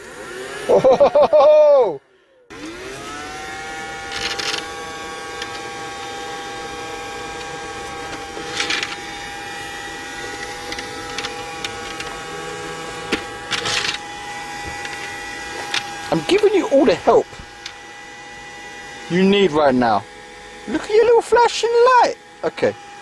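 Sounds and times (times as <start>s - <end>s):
robot vacuum motor whine: 0.0s - 23.0s.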